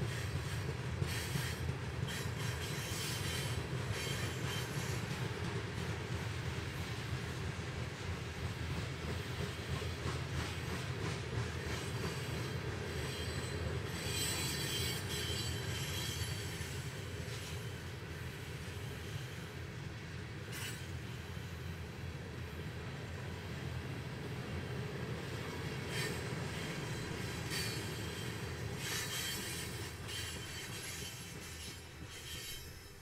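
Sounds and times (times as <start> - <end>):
train wheel squeal: 0.0 - 23.7, 24.4 - 33.0
train wheels rumbling on rails: 0.0 - 33.0.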